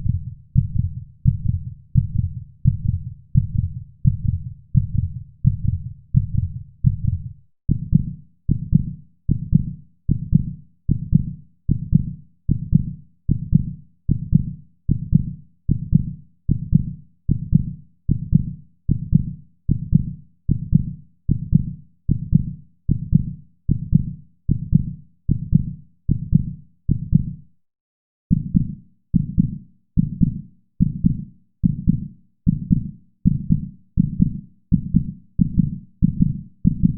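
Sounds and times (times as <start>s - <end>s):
heartbeat: 0.0s - 27.4s, 28.3s - 36.9s.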